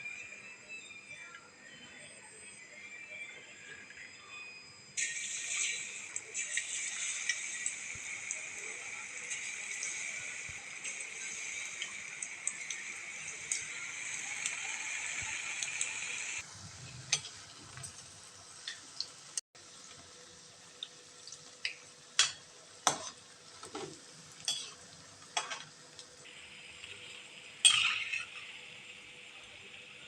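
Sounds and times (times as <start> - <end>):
balls deep-frying in hot oil: 3.9 - 30.0.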